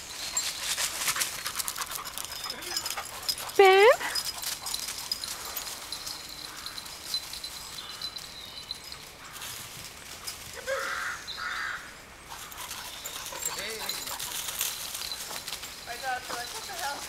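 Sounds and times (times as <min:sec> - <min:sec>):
dog paws running on dry leaves: 0:00.0 - 0:17.0.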